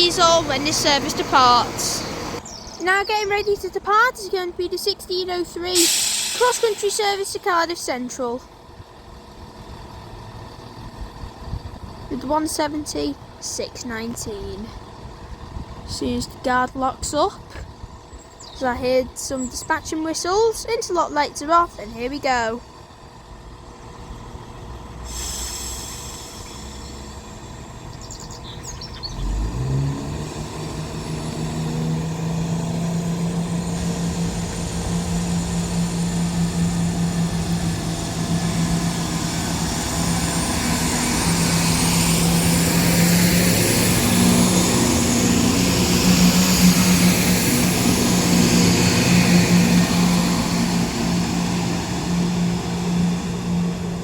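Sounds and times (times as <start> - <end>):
diesel train engine: 0.0 - 54.0
train running noise: 0.0 - 54.0.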